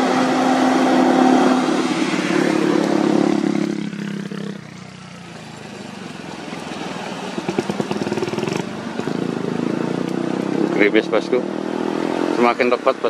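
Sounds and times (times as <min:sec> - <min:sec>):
heavy truck approaching: 0:00.0 - 0:11.6
motor scooter approaching: 0:00.0 - 0:12.5
motorcycle engine running: 0:01.6 - 0:12.9.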